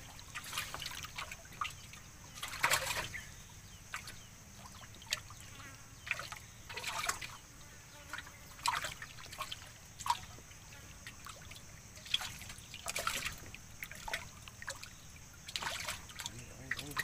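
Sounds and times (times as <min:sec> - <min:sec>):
paddle splashing in water: 0:00.0 - 0:05.4, 0:06.0 - 0:07.4, 0:08.5 - 0:17.0
trickling drips: 0:00.0 - 0:07.4, 0:08.1 - 0:17.0.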